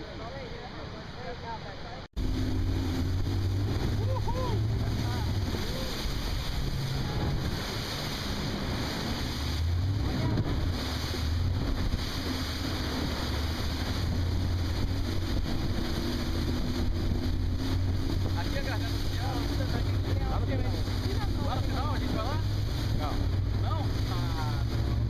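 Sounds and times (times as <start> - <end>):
boat engine drone: 0.0 - 25.0
churning boat wake: 0.0 - 25.0
wind buffeting microphone: 2.2 - 25.0.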